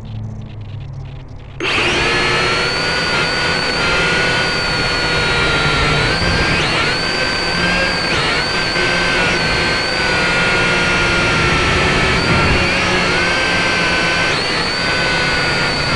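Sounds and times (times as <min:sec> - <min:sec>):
drone motors whining: 0:00.0 - 0:15.9
low hum: 0:00.0 - 0:15.9.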